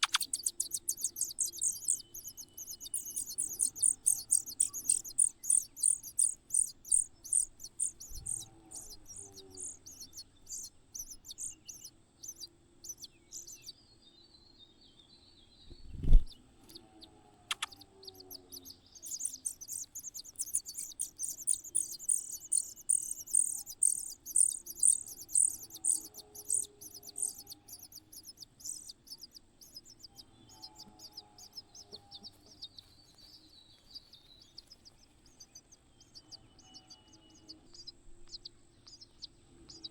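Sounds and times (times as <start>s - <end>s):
nestling birds cheeping: 0.0s - 13.8s, 16.2s - 39.9s.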